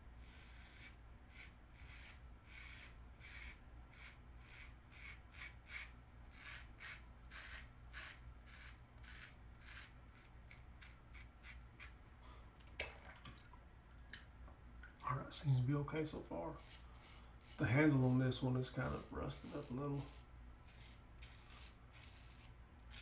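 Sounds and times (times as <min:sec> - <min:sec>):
razor scraping stubble: 0:00.2 - 0:12.2, 0:15.2 - 0:23.0.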